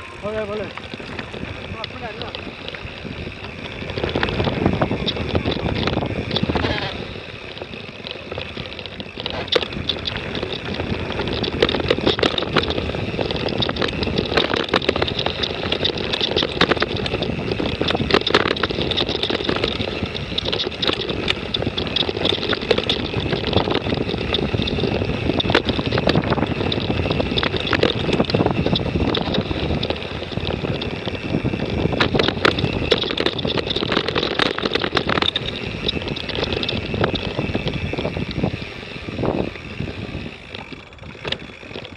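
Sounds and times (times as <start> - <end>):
bike rattling over bumps: 0.0 - 41.9
bike tyre riding noise: 0.0 - 41.9.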